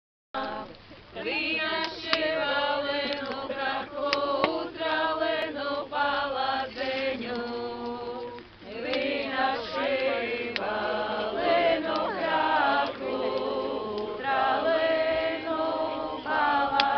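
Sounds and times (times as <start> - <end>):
group singing unaccompanied folk song: 0.4 - 16.9.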